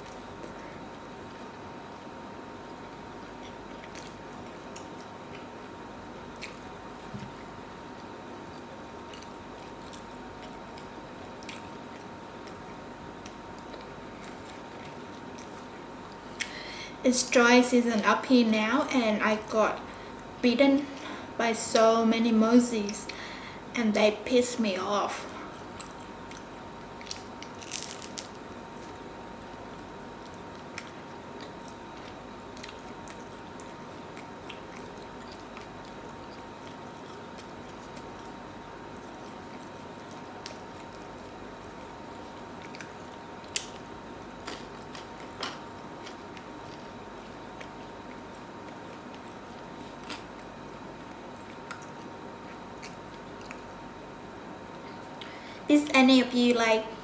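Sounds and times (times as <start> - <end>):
person chewing food: 0.0 - 16.7, 25.4 - 55.4
steady background hiss: 0.0 - 57.0.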